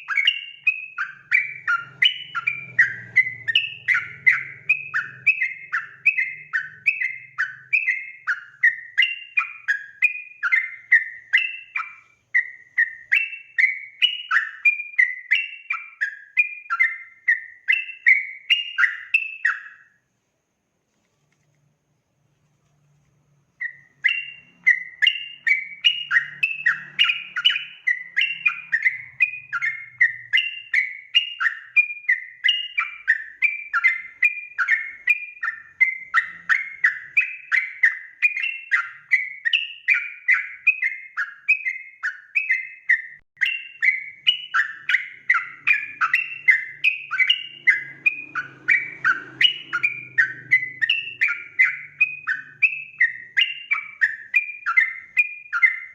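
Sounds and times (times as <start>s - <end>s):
bird chirping song: 0.0s - 55.9s.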